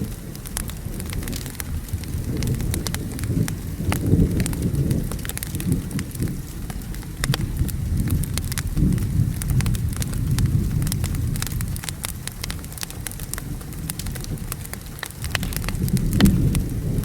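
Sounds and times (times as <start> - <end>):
rolling rumble of thunder: 0.0 - 17.0
steady rain: 0.0 - 17.0
wood fire crackling and popping: 0.0 - 17.0.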